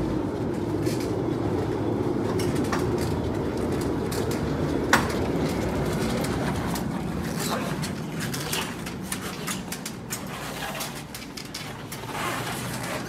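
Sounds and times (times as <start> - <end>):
stretcher wheels rolling on floor: 0.0 - 13.0.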